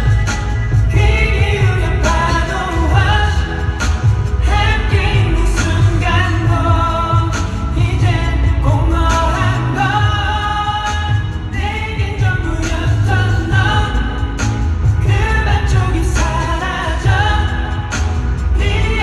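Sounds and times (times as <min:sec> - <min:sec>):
amplified band track with heavy bass: 0:00.0 - 0:19.0
man singing pop song live: 0:00.0 - 0:19.0.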